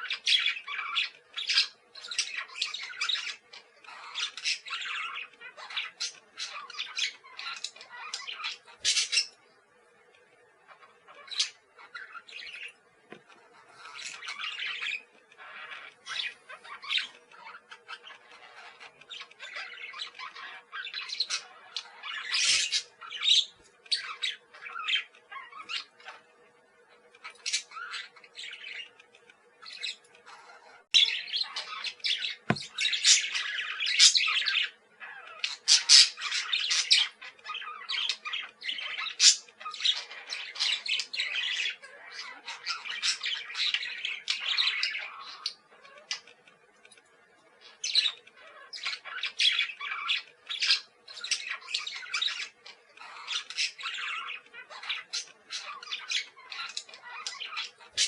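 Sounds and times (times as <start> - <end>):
parakeets chattering and squawking: 0.0 - 58.0.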